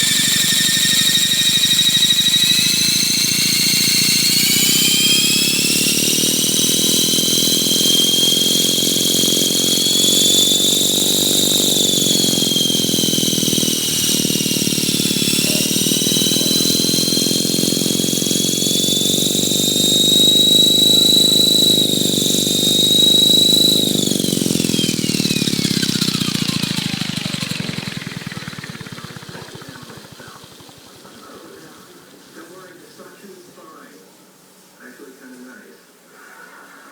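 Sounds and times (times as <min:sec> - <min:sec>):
rc helicopter whine: 0:00.0 - 0:33.9.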